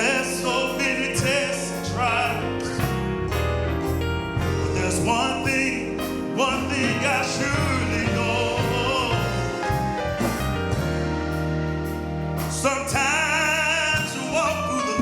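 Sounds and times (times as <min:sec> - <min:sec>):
sustained instrumental accompaniment: 0:00.0 - 0:15.0.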